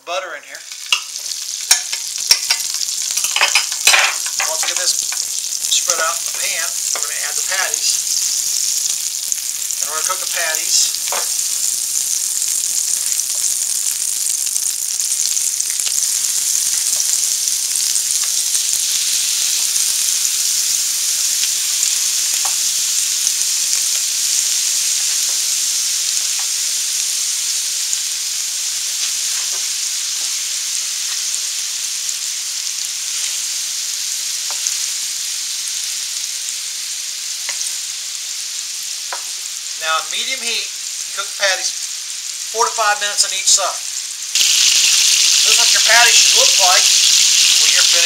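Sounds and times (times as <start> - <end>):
meat sizzling in skillet: 0.2 - 48.0.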